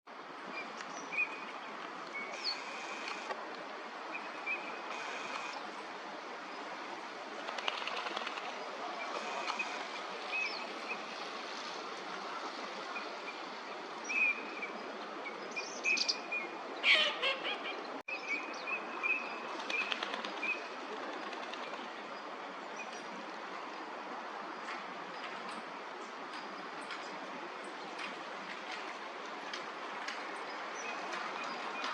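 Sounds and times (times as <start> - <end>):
background noise: 0.1 - 31.9.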